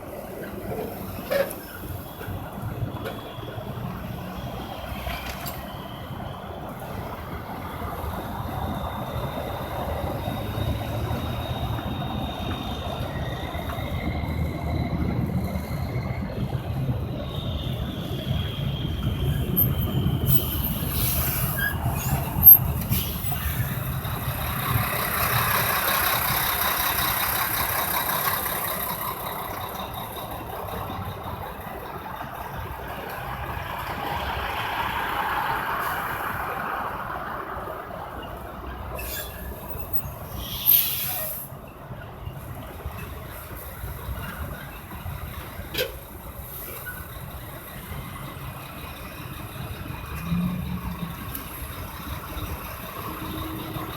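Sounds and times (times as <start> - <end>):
traffic rumble: 0.0 - 53.9.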